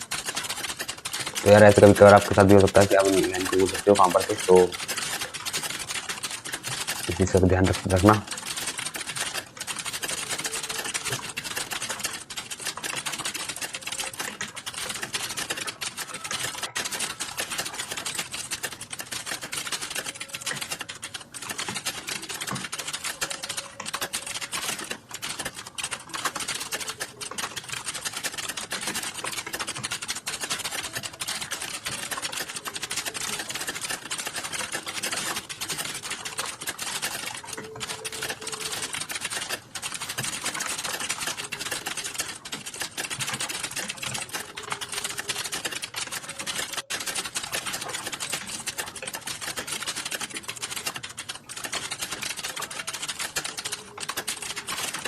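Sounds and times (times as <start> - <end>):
fast typing on keyboard: 0.0 - 55.0.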